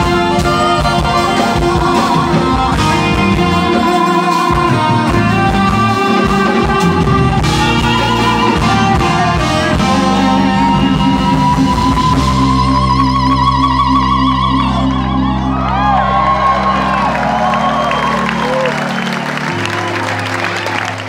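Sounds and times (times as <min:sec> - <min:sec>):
bending lead tone: 0:00.0 - 0:21.0
jazz fusion band playing live: 0:00.0 - 0:21.0.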